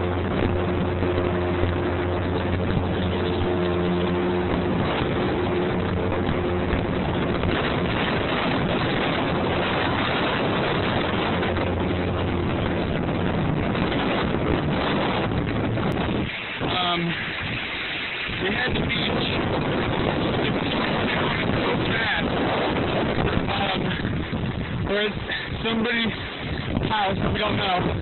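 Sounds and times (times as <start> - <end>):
motorboat engine running: 0.0 - 28.0
rushing water: 0.0 - 28.0
storm wind: 0.0 - 28.0.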